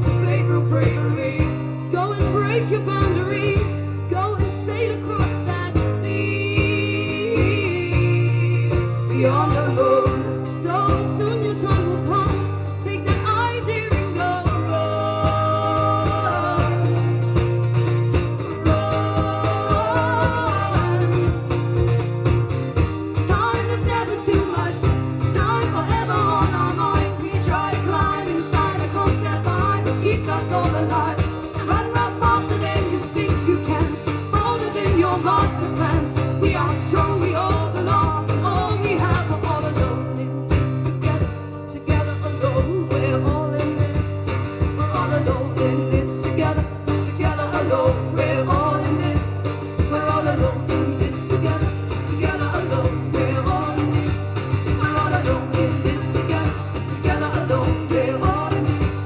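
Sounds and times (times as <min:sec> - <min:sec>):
live band instrumental music: 0:00.0 - 0:59.0.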